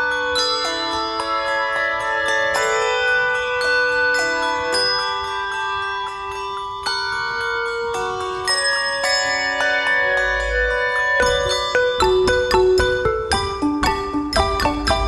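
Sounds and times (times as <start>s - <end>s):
handbell choir ringing chords: 0.0s - 15.0s.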